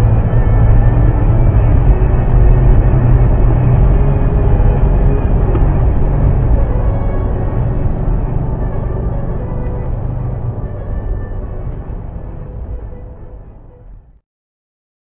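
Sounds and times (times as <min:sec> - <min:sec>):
car interior road rumble: 0:00.0 - 0:14.2.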